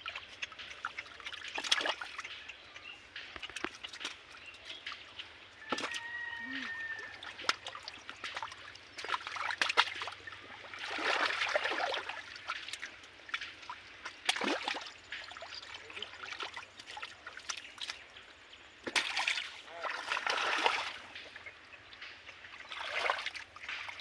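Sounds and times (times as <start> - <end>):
muddy water sloshing and trickling: 0.0 - 24.0
water splashing: 0.0 - 24.0.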